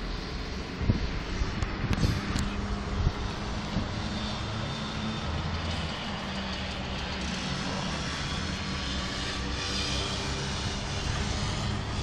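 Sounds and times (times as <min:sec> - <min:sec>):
city street traffic: 0:00.0 - 0:12.0
low engine hum: 0:00.0 - 0:12.0.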